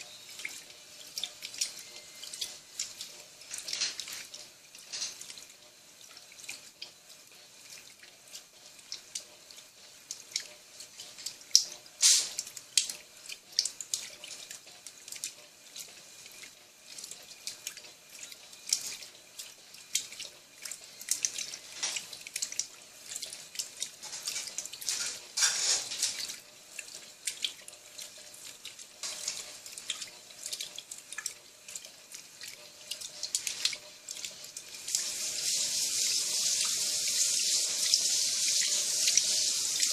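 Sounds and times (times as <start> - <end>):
water sloshing and splashing: 0.0 - 35.1
washing machine agitating: 0.0 - 39.9.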